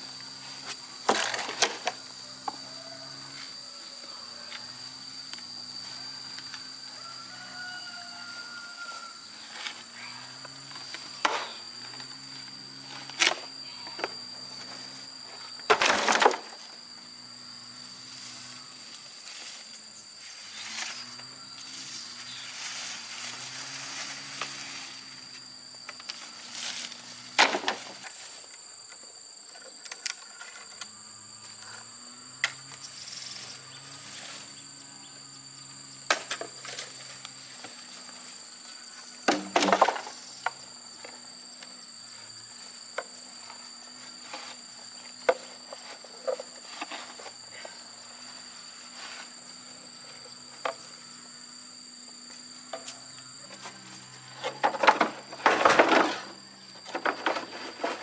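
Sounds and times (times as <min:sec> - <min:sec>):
high-pitched insect chirring: 0:01.8 - 0:15.7, 0:16.5 - 0:27.4, 0:28.0 - 0:54.4.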